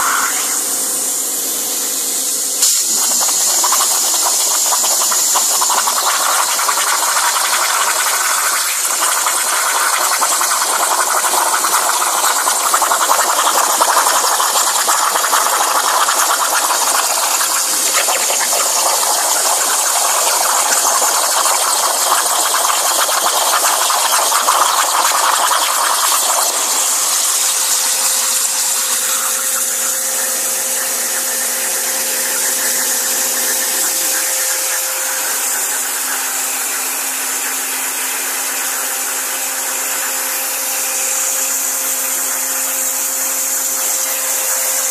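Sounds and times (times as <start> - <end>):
steady hum: 0.0 - 40.1
plasma cutter hissing: 0.0 - 44.9.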